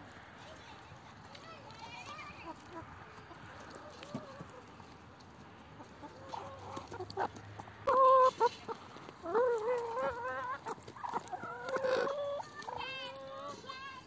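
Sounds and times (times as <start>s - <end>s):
hens clucking: 1.0s - 14.0s.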